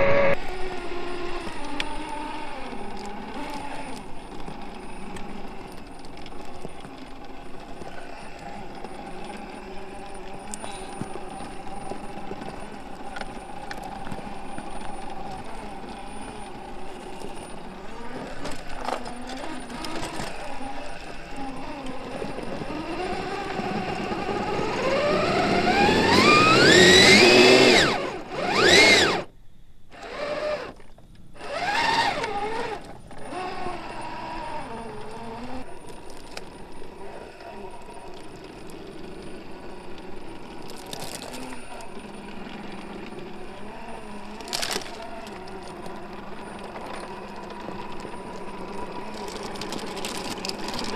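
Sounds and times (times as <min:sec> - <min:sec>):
electric motor whining: 0:00.0 - 0:29.3, 0:29.9 - 0:50.9.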